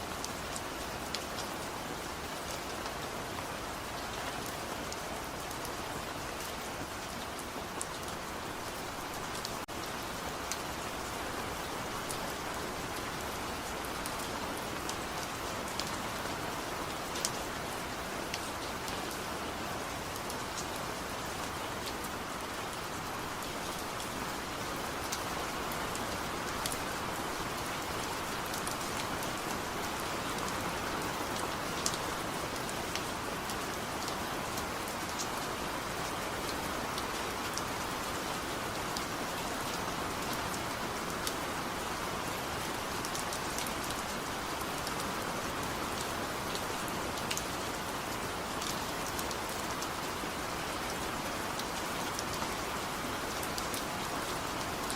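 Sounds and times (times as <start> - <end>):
gentle rain hiss: 0.0 - 54.9.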